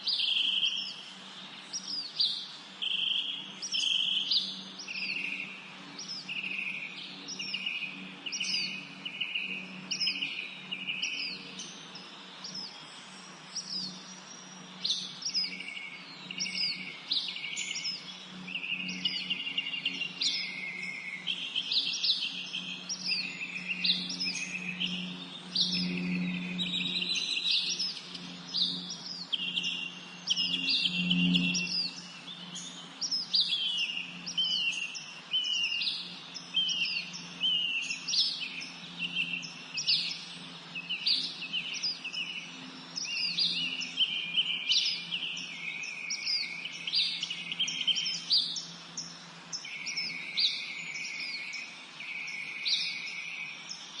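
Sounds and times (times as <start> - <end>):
songbirds singing and chirping: 0.0 - 54.0
steady low hum: 0.0 - 54.0.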